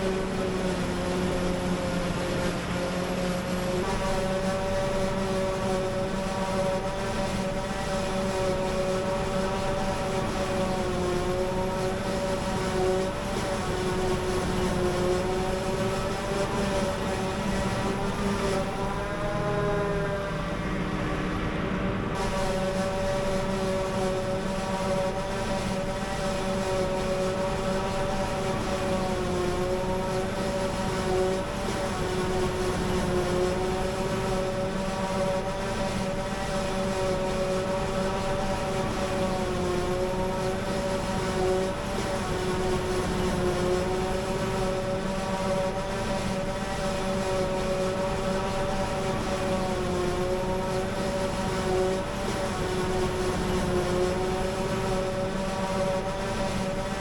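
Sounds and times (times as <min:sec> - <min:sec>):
forage harvester running: 0:00.0 - 0:57.0.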